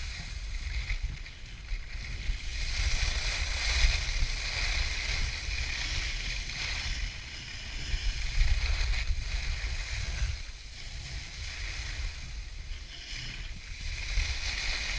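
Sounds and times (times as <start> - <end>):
low wind rumble on microphone: 0.0 - 14.9
skis carving on packed snow: 0.0 - 14.9.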